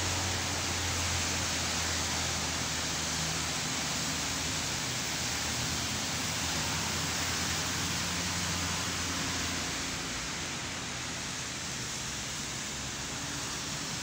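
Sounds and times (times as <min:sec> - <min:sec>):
rain on wet street: 0:00.0 - 0:14.0.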